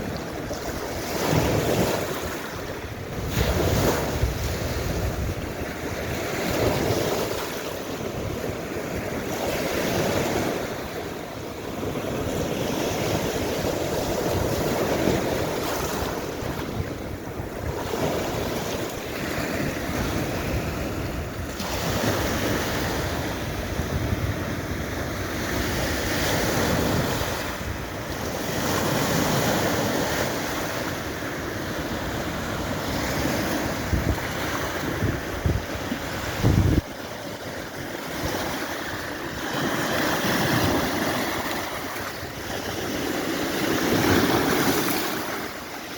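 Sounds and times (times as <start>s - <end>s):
waves washing onto shore: 0.0s - 45.9s
wind buffeting microphone: 0.0s - 45.9s.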